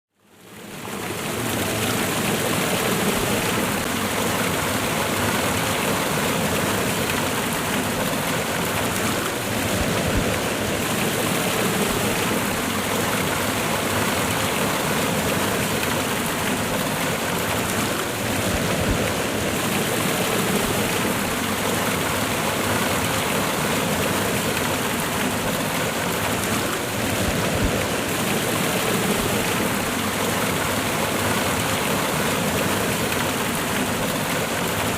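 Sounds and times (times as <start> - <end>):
waterfall rushing over rocks: 0.2 - 34.9.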